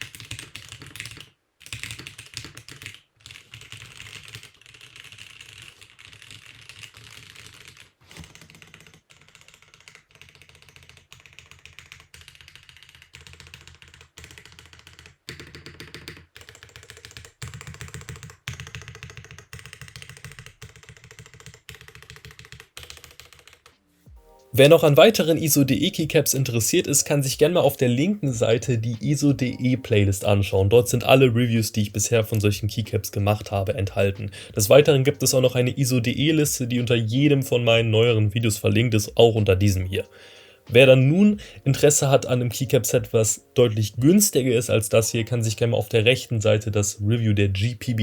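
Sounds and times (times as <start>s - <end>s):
typing on mechanical keyboard: 0.0s - 23.8s, 24.6s - 48.0s.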